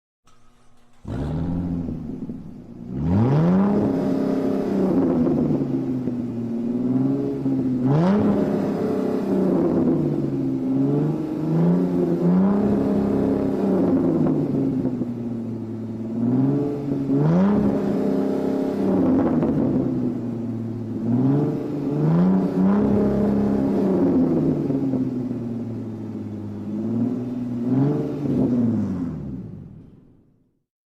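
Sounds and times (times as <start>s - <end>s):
sports car engine revving: 0.3s - 30.0s.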